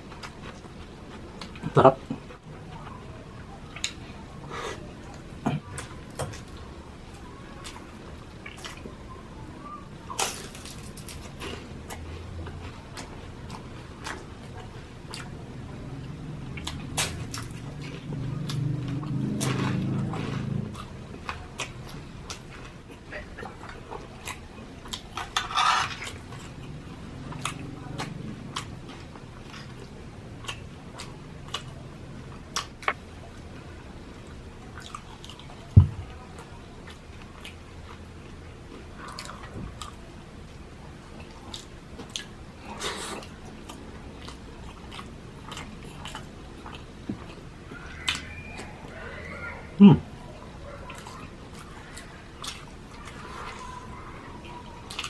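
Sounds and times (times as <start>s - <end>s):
person chewing food: 0.0s - 9.0s, 10.0s - 49.0s, 49.9s - 55.0s.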